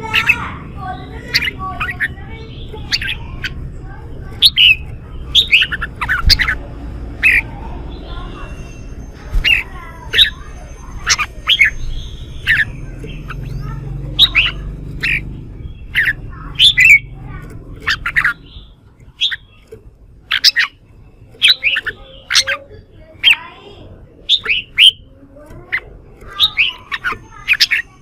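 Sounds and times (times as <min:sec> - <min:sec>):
birds giving sharp calls: 0:00.0 - 0:28.0.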